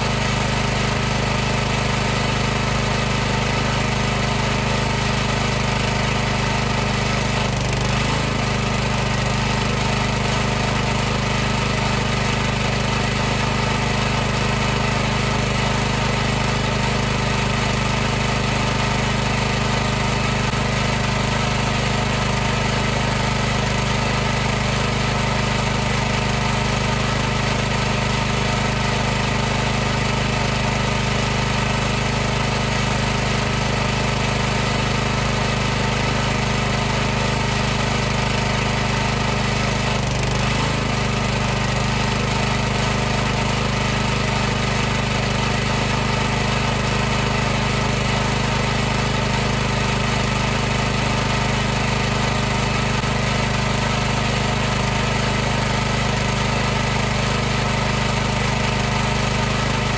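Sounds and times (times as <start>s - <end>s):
pressure washer running: 0.0s - 59.9s.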